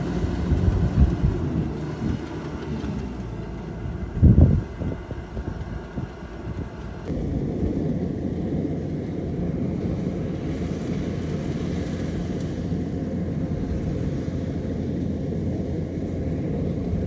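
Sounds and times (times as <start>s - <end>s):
combine harvester engine droning: 0.0s - 17.0s.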